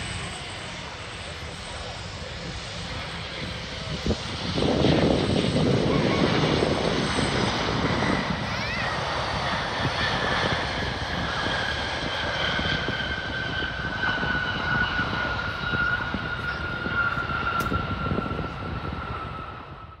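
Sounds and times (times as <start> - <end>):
jet engines whining: 0.0 - 20.0
wind buffeting microphone: 0.0 - 20.0.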